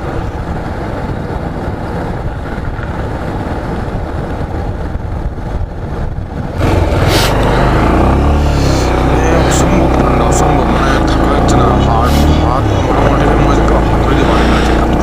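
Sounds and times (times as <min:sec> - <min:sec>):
motorcycle engine rumble: 0:00.0 - 0:15.0
wind noise on microphone: 0:00.0 - 0:15.0.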